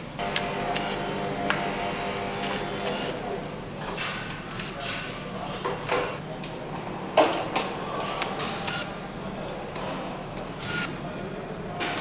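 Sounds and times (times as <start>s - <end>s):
steady factory hum: 0.0s - 12.0s.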